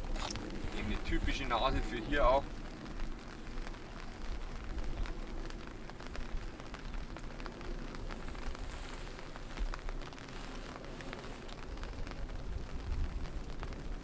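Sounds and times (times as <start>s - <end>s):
light rain pattering: 0.0s - 14.0s
low rumble: 0.0s - 14.0s.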